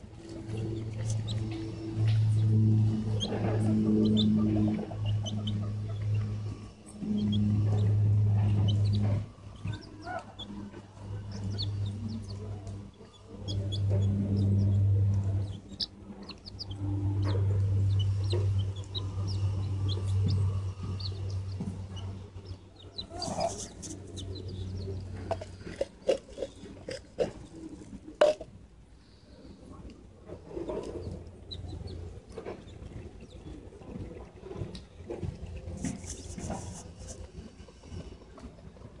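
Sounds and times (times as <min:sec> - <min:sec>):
chickens clucking: 0:00.0 - 0:28.5, 0:29.8 - 0:38.9
low steady hum: 0:00.0 - 0:39.0
chicks peeping: 0:00.2 - 0:26.9, 0:30.6 - 0:34.1, 0:34.8 - 0:37.2.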